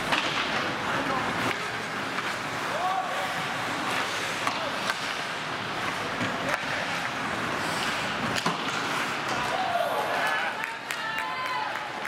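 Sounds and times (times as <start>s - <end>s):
skates scraping ice: 0.0s - 12.0s.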